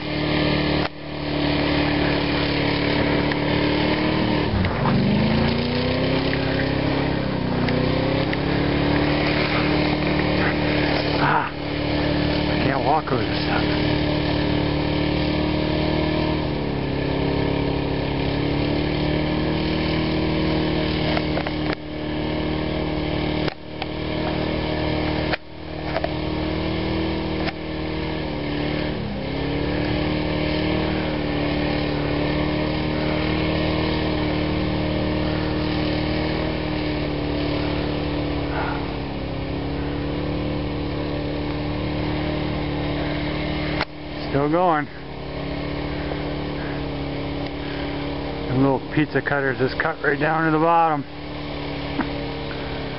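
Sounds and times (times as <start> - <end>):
truck engine running under load: 0.0 - 52.9.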